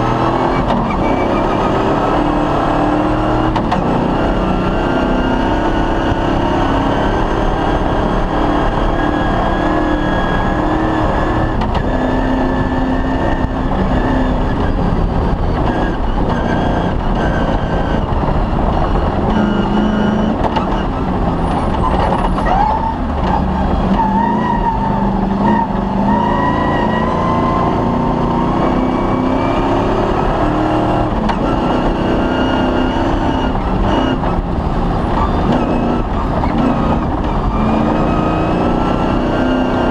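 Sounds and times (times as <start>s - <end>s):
rally car engine running hard: 0.0s - 39.9s.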